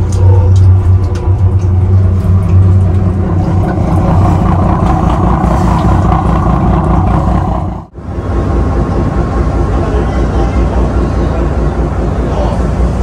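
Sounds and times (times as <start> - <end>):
ship diesel engine drone: 0.0 - 13.0.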